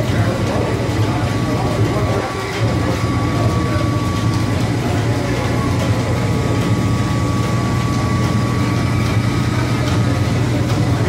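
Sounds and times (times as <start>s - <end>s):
rumble of turning shafts and belts: 0.0s - 11.0s
thin steady whine: 0.0s - 11.0s.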